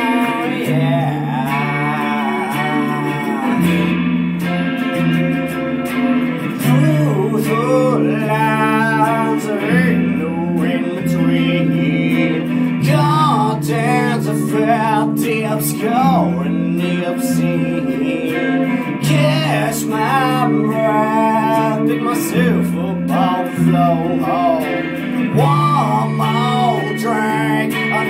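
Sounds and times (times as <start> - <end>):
man singing: 0.0 - 5.5, 6.2 - 28.0
bass guitar: 0.0 - 28.0
electric guitar: 0.0 - 28.0.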